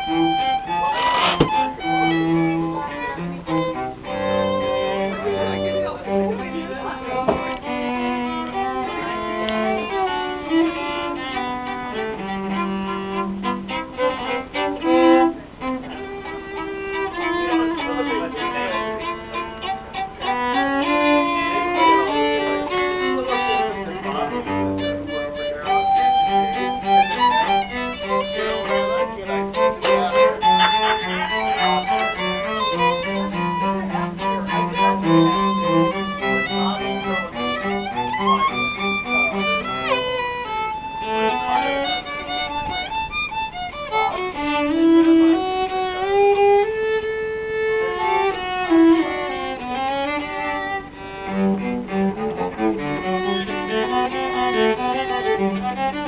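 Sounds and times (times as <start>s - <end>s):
cello: 0.0s - 56.0s
violin: 0.0s - 56.0s.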